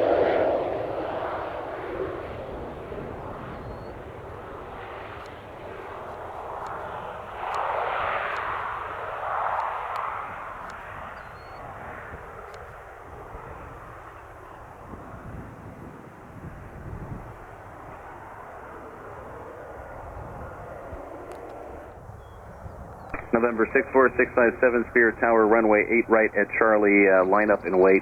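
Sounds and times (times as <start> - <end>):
airplane engine passing: 0.0 - 28.0.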